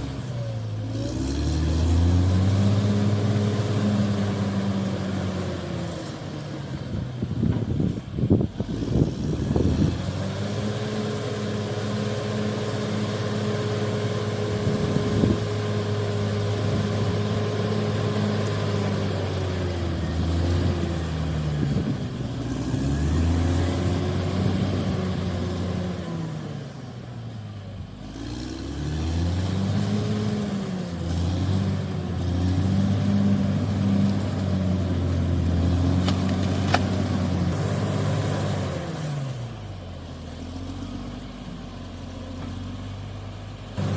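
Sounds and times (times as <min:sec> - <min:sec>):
heavy diesel engine revving: 0:00.0 - 0:07.0, 0:07.7 - 0:43.9.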